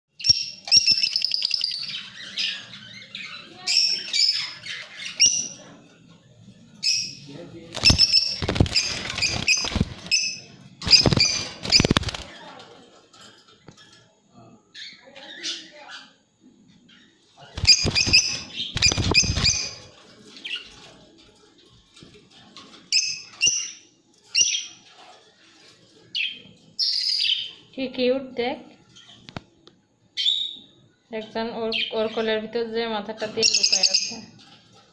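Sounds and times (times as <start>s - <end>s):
lovebirds chirping and squawking: 0.1s - 12.6s, 14.7s - 21.0s, 22.8s - 27.7s, 28.8s - 32.6s, 33.2s - 34.8s.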